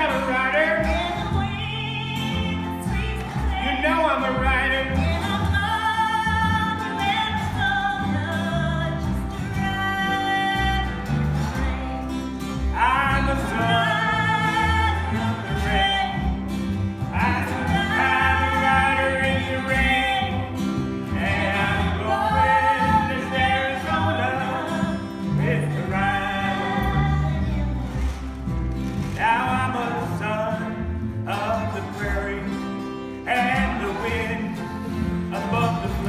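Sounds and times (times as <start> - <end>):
person singing: 0.0 - 16.5, 17.1 - 28.3, 29.0 - 36.0
country instrumental accompaniment: 0.0 - 36.0.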